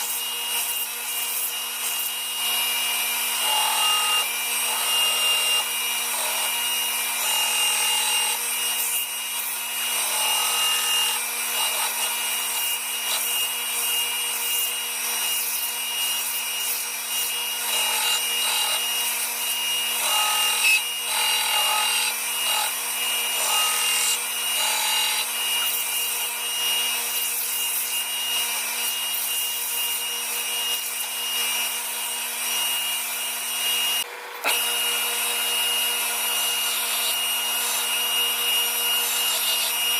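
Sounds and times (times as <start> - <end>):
power sander running: 0.0 - 39.9.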